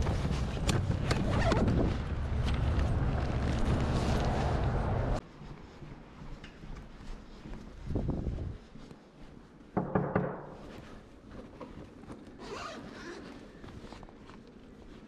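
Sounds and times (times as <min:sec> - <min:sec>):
fabric and straps rustling: 0:00.0 - 0:09.7, 0:10.5 - 0:15.0.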